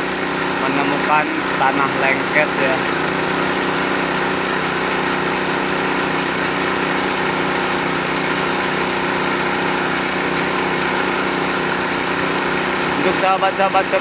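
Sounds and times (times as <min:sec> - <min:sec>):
drilling rig engine running: 0:00.0 - 0:14.0.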